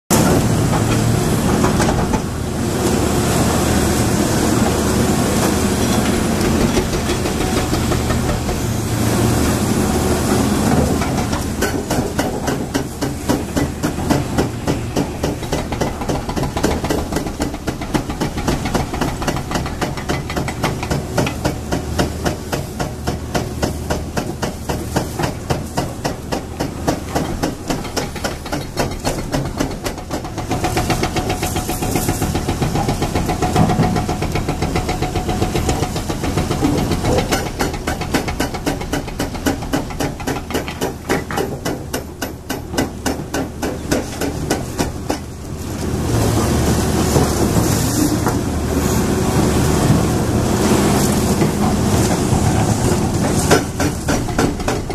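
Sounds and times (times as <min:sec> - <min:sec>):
excavator engines and hydraulics: 0:00.1 - 0:54.9.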